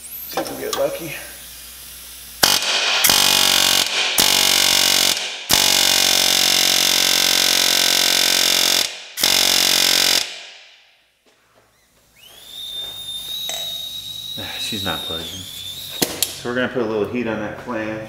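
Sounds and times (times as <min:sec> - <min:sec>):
pneumatic air hammer: 0:00.0 - 0:10.7, 0:11.7 - 0:16.4.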